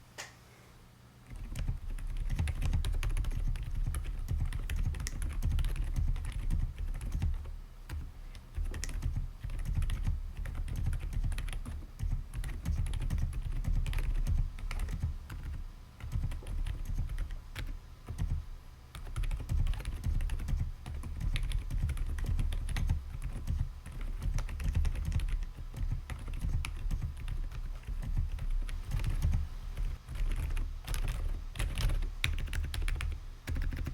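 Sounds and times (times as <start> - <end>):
soft mechanical keyboard typing: 1.3 - 33.9.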